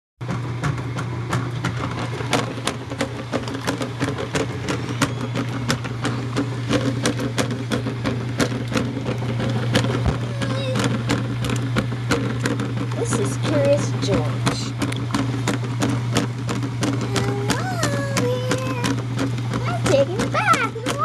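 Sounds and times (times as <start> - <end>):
washing machine clicks and knocks: 0.2 - 21.0
washing machine motor hum: 0.2 - 21.0.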